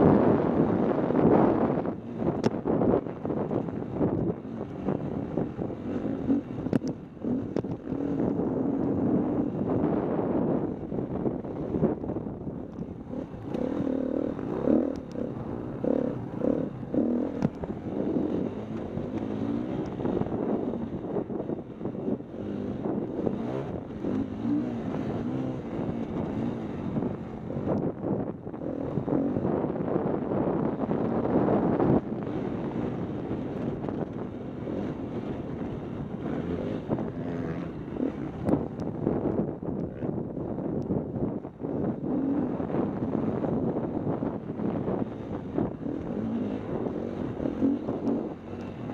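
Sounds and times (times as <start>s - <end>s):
dirt bike engine revving: 0.0s - 10.8s, 12.9s - 40.1s, 41.6s - 48.9s
wind buffeting on microphone: 0.0s - 48.9s.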